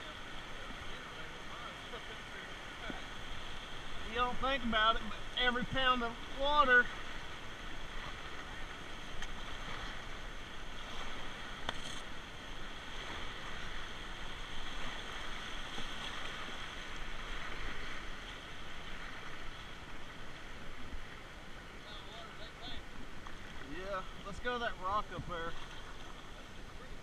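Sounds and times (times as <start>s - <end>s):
river whitewater rushing: 0.0s - 27.0s.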